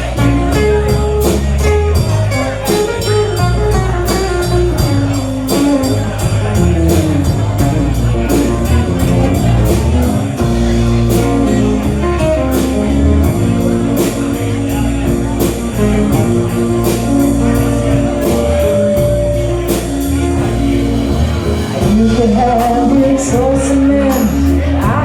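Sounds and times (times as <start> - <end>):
bass: 0.0 - 25.0
guitar: 0.0 - 25.0
steady drum beat: 0.0 - 25.0.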